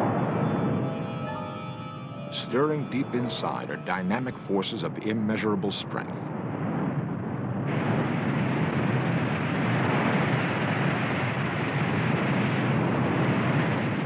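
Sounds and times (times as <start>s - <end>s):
loud low rumble: 0.0s - 13.5s.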